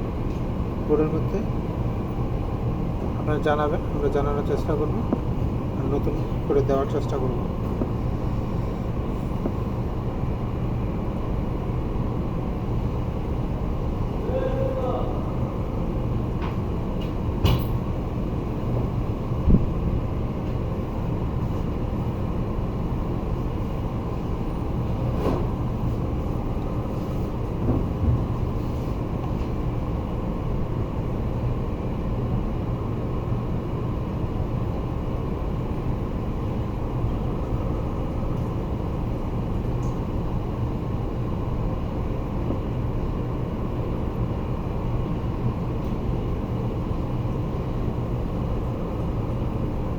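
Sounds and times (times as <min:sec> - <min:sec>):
faint constant hum: 0:00.0 - 0:49.9.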